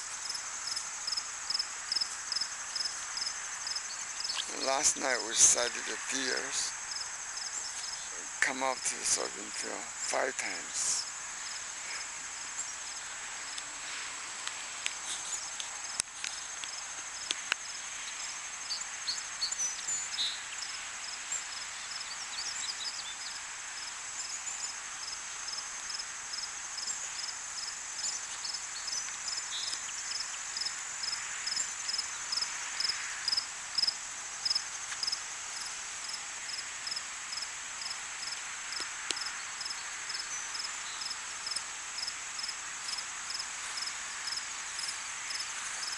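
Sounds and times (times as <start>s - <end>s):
short repeating insect chirp: 0.0s - 13.7s, 14.8s - 45.9s
insects trilling: 0.0s - 45.9s.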